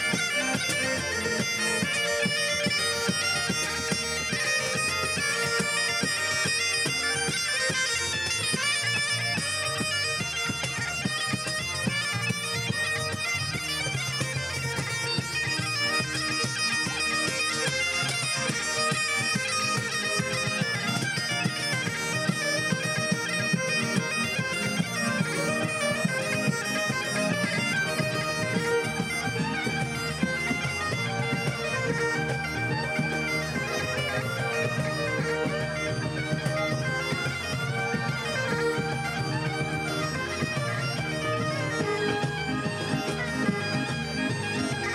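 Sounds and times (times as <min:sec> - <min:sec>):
bagpipes playing a tune: 0:00.0 - 0:44.9.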